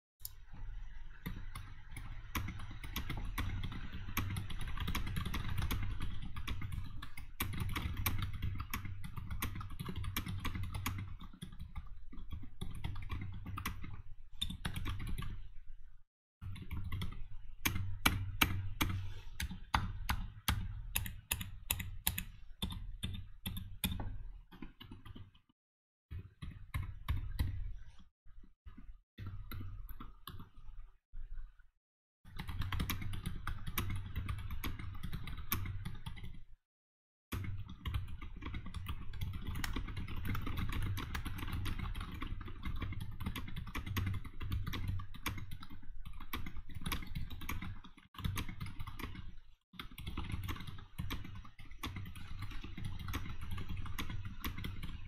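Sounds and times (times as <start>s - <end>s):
typing on mechanical keyboard: 1.2s - 15.4s, 16.4s - 25.4s, 32.3s - 36.5s, 37.3s - 55.0s.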